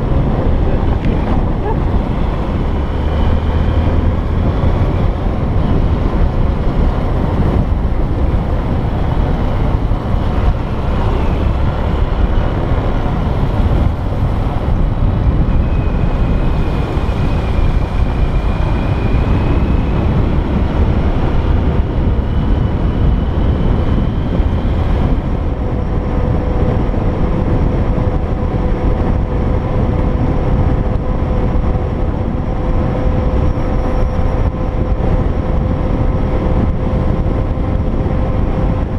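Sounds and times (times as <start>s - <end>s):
engine running: 0.0s - 38.9s
wind rumble on microphone: 0.0s - 38.9s.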